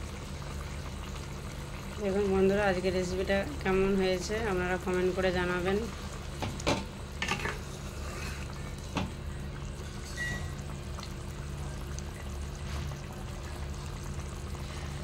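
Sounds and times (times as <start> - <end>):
curry simmering and bubbling: 0.0 - 15.0.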